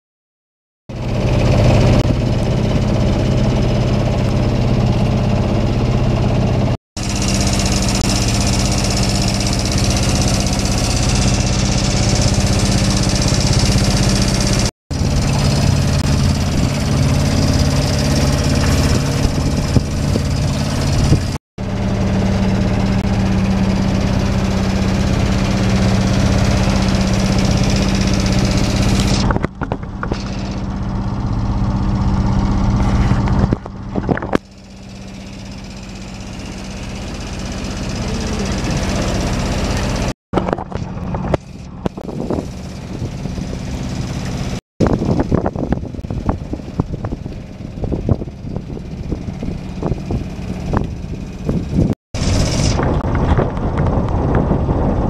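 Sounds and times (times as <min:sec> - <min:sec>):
boat motor humming: 0:00.9 - 0:55.0.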